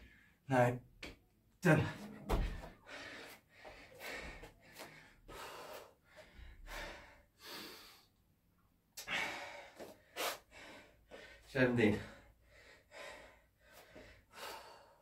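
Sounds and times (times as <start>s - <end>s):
man breathing hard: 1.8s - 8.2s, 9.0s - 15.0s.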